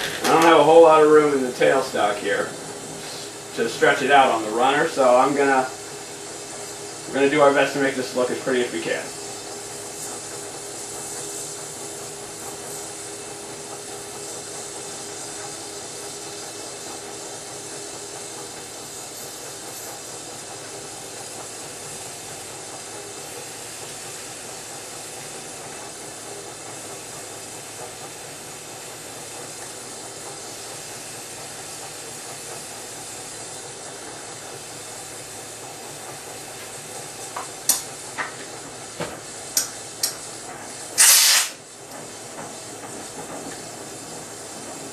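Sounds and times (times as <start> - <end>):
torch flame hissing: 0.0 - 44.9.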